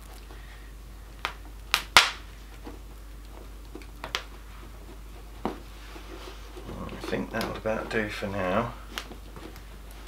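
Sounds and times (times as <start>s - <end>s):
log fire crackling: 0.0s - 10.0s
steady low hum: 0.0s - 10.0s.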